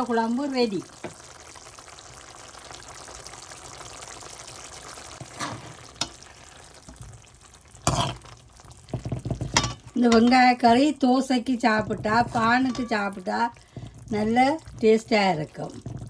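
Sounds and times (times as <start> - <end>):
curry sizzling and bubbling in pan: 0.0 - 16.0.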